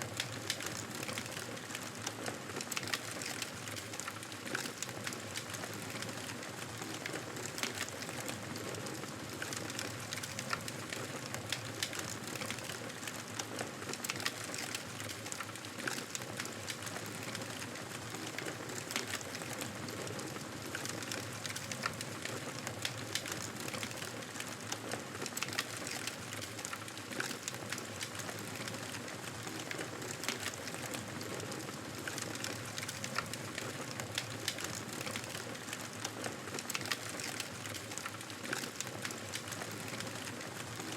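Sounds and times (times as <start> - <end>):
wood crackling and popping: 0.0 - 40.9.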